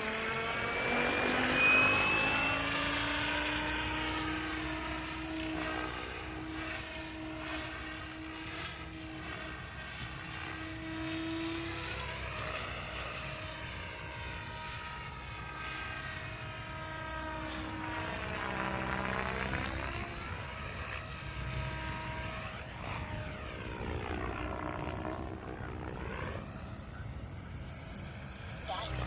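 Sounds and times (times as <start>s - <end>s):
rc helicopter motor whine: 0.0s - 29.0s.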